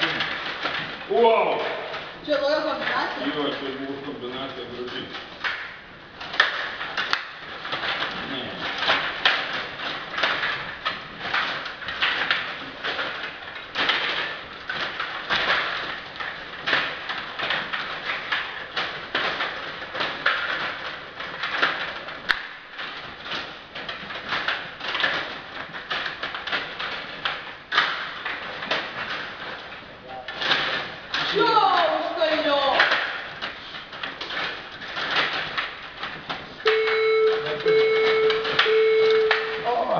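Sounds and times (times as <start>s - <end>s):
table hockey plastic clatter: 0.0s - 39.6s.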